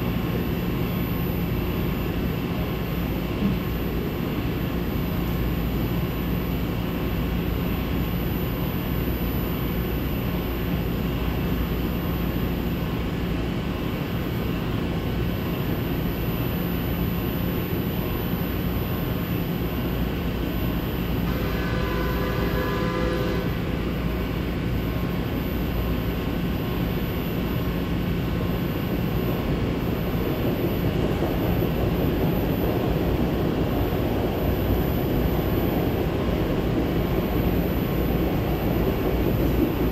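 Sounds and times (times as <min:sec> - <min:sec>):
train equipment humming with hiss: 0:00.0 - 0:39.9.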